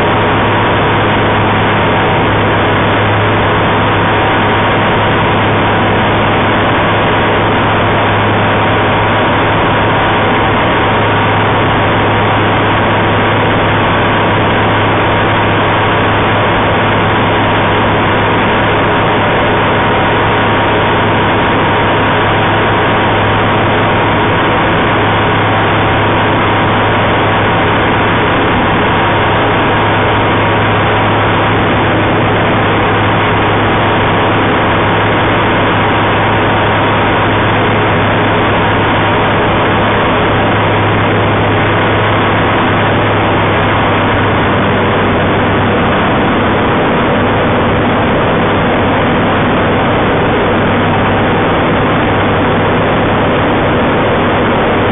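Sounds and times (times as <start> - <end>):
aircraft engine and propeller: 0.0 - 54.9.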